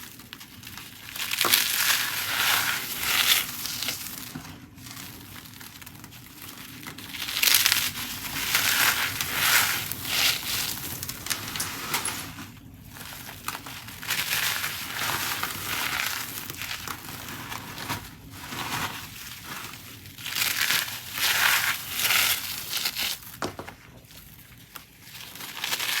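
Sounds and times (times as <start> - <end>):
cornstarch crunching: 0.0 - 26.0.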